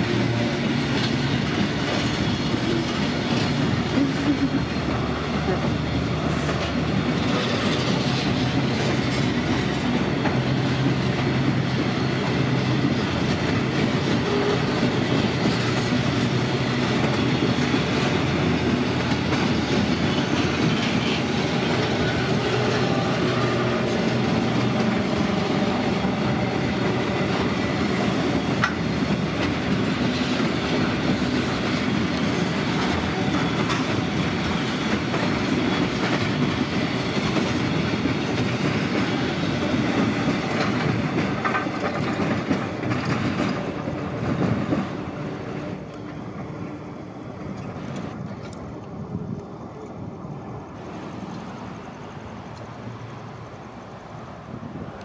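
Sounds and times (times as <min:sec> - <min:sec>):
steel wheels rolling on rails: 0:00.0 - 0:55.0.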